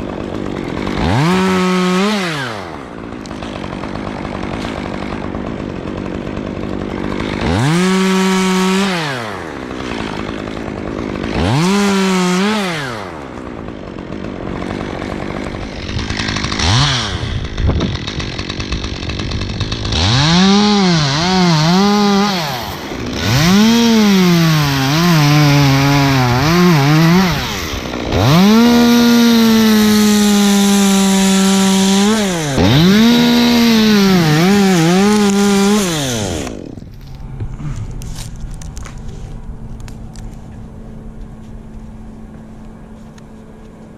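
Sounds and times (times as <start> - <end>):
chainsaw revving and cutting wood: 0.0 - 43.9.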